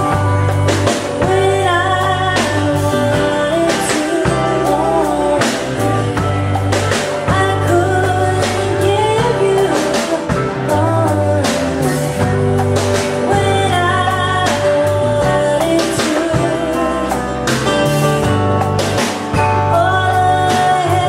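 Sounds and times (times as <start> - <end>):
bass notes: 0.0 - 21.0
drums: 0.0 - 21.0
person singing: 0.0 - 21.0.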